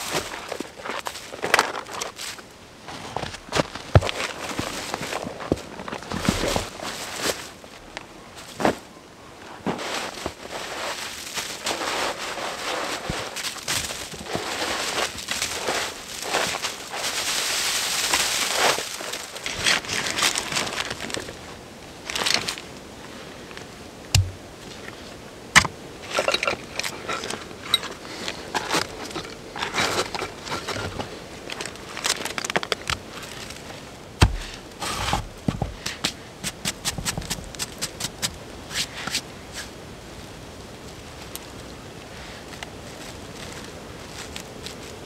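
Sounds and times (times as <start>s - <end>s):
snowy branches rustling and crunching: 0.0s - 8.9s, 9.6s - 45.0s.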